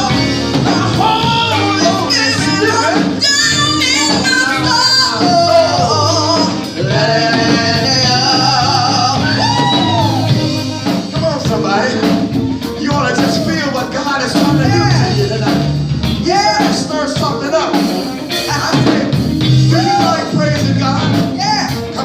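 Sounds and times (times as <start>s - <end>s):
band accompaniment: 0.0s - 22.0s.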